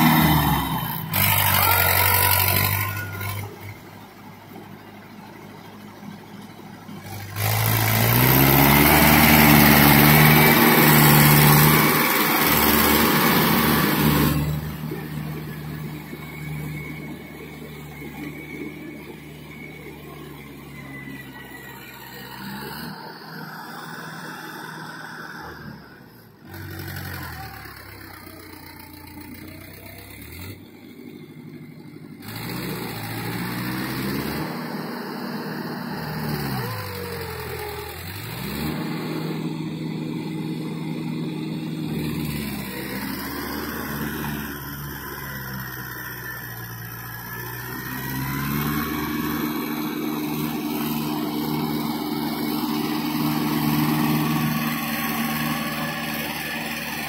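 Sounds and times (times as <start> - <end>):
tractor diesel engine in mud: 0.0 - 57.0.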